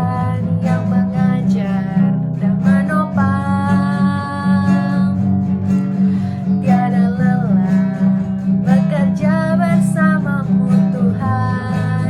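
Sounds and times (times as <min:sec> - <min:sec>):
person singing: 0:00.0 - 0:05.3, 0:06.0 - 0:12.0
acoustic guitar strumming: 0:00.0 - 0:12.0.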